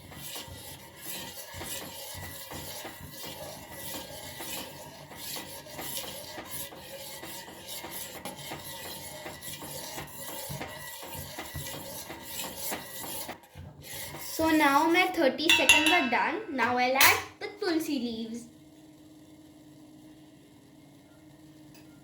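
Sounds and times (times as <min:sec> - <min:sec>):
liquid boiling in a pan: 0:00.0 - 0:22.0.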